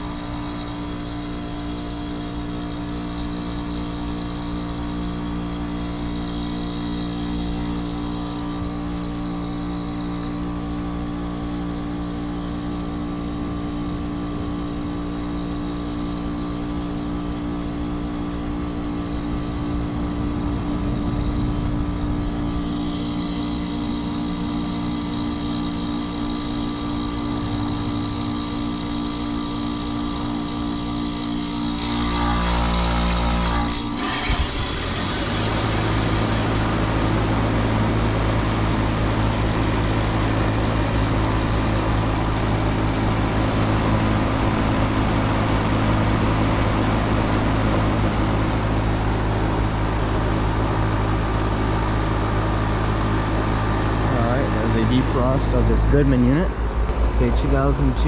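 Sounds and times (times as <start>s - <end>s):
compressor humming: 0.0s - 58.0s
condenser fan turning: 0.0s - 58.0s.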